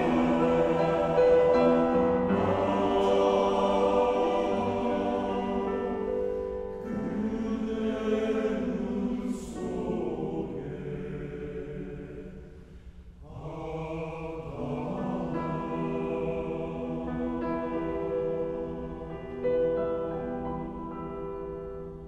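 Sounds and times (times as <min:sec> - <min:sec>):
men's choir singing in harmony: 0:00.0 - 0:12.6, 0:13.2 - 0:21.4.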